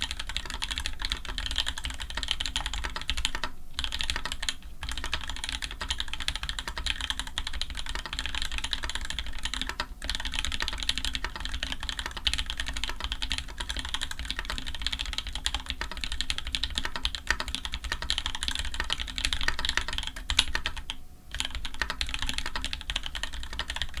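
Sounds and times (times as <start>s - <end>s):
mechanical keyboard typing: 0.0s - 24.0s.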